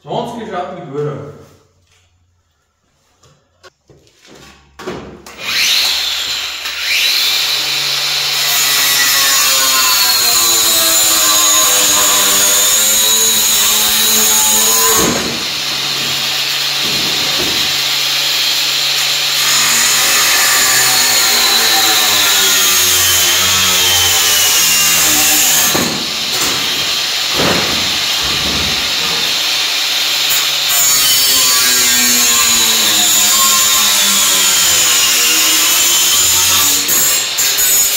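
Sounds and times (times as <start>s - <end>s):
power tool cutting sheet metal: 5.3s - 37.9s.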